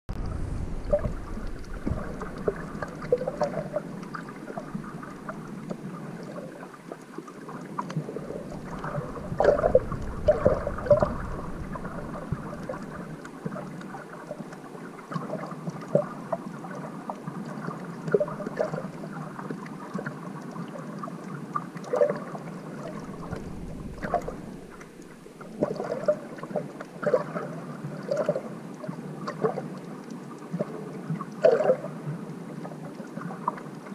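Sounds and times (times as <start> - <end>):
muffled underwater sloshing: 0.1 - 33.9
water surges: 0.1 - 33.9
small underwater clicks: 0.2 - 33.9.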